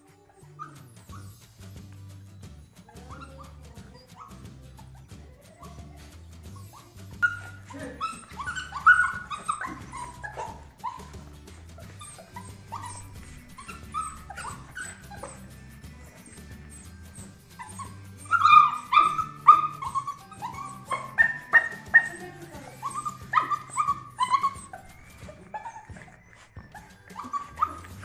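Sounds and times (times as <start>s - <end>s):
background music with bass: 0.0s - 28.0s
puppies yipping and whining: 0.0s - 28.0s.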